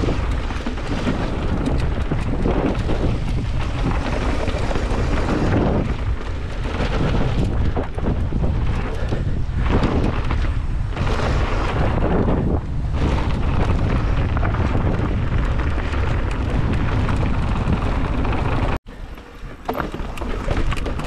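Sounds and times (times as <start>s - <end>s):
wind buffeting microphone: 0.0s - 18.8s
bike clicks and rattles: 0.0s - 21.0s
bike tyres rumbling on dirt: 0.0s - 21.0s.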